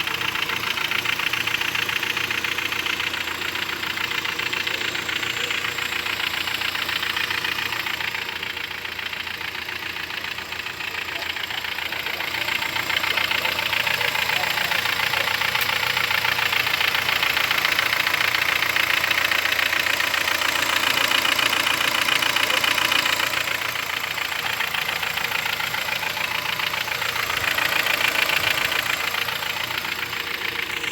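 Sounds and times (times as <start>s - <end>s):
car engine idling with knocking clatter: 0.0s - 30.9s.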